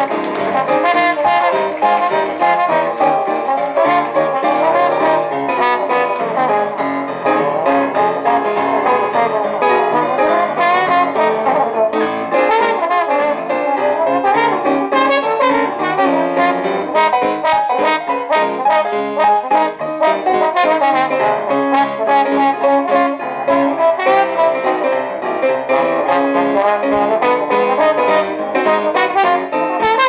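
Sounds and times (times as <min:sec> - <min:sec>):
jazz band playing: 0:00.0 - 0:30.0
trombone: 0:00.0 - 0:30.0.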